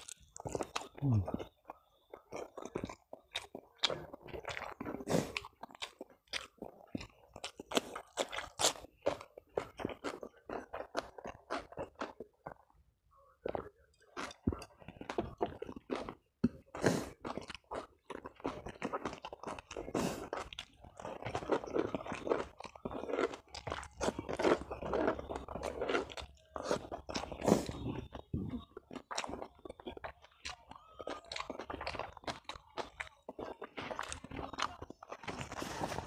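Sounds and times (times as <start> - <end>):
chewing: 0.0 - 36.0.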